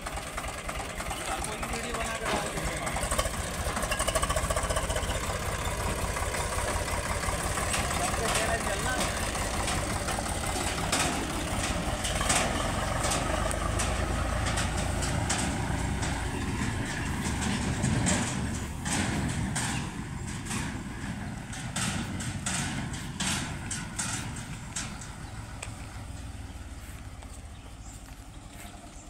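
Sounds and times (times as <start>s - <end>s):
tractor diesel engine running: 0.0s - 29.0s
sharp rattling clicks: 0.2s - 26.4s.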